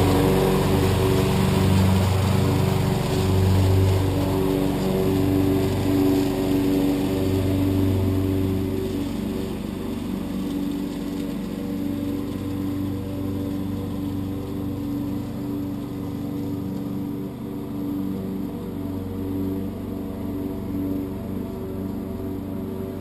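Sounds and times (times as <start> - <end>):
lawn tractor engine running: 0.0 - 23.0
mower deck cutting leaves: 0.0 - 23.0.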